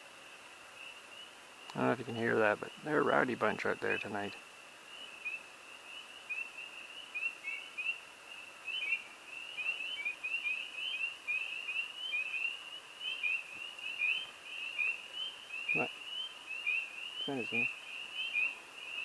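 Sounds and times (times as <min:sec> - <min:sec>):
frogs chirping: 0:00.2 - 0:19.0.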